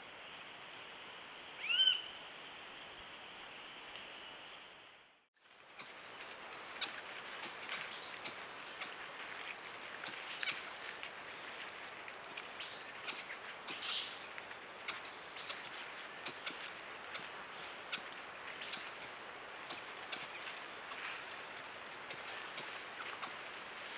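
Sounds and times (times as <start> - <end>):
background hiss: 0.0 - 23.9.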